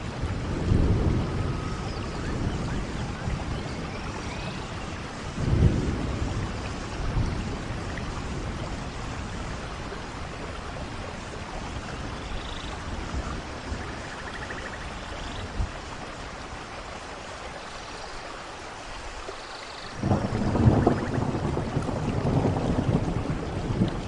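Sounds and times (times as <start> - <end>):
thunder rumbling: 0.0 - 15.8, 20.0 - 24.0
steady rain falling: 0.0 - 24.0.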